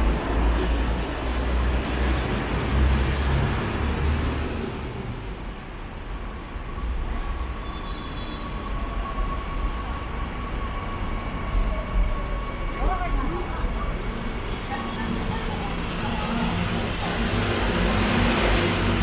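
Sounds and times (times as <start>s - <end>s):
traffic hum: 0.0s - 19.0s.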